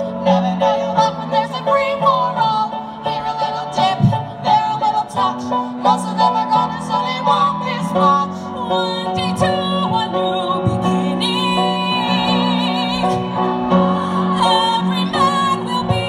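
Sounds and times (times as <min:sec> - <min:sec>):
women singing: 0:00.0 - 0:16.0.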